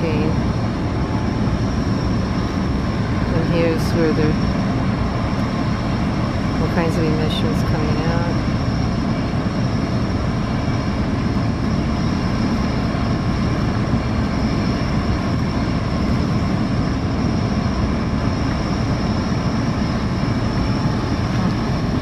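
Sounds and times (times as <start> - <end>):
low mechanical drone: 0.0 - 22.0
thin high whine: 0.0 - 22.0.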